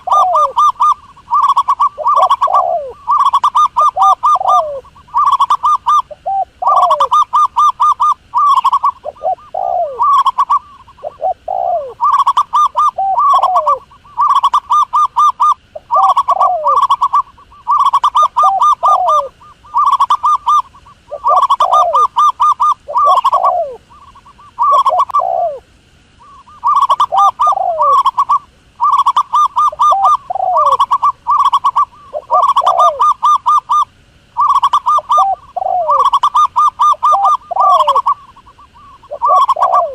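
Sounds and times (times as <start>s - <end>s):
dove calling: 0.0s - 39.9s.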